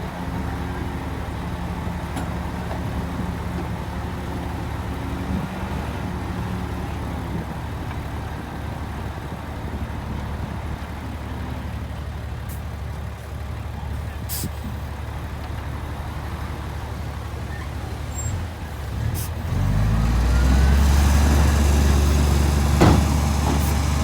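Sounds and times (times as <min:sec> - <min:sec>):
heavy diesel engine under load: 0:00.0 - 0:24.0.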